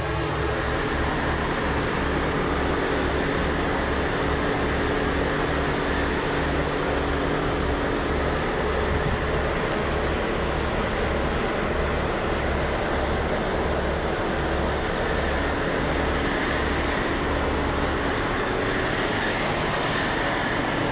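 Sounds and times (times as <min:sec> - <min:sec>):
machine hum with fan noise: 0:00.0 - 0:20.9.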